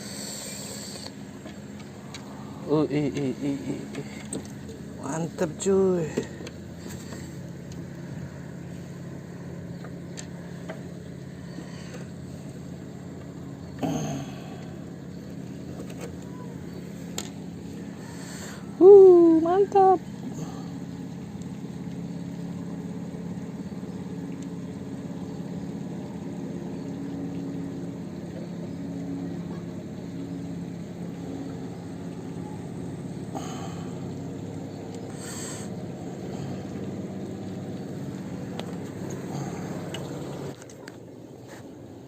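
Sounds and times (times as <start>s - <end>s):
low mechanical hum: 0.0s - 42.0s.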